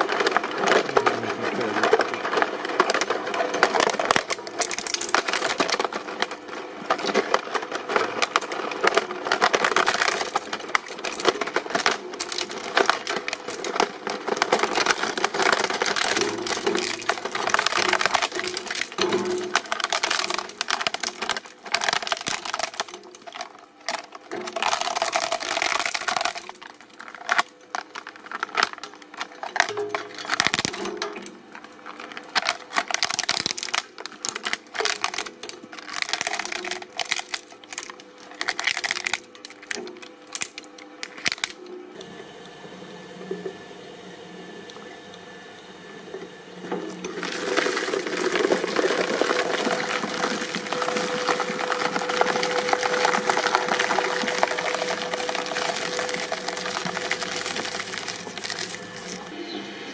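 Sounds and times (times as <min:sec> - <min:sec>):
shredder crushing material: 0:00.0 - 0:59.9.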